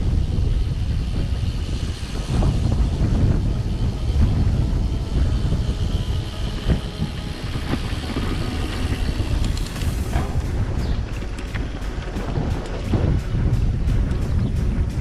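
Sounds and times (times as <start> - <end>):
bike tyres rumbling on paving: 0.0 - 15.0
short bike rattles: 0.0 - 15.0
wind buffeting camera: 0.0 - 15.0.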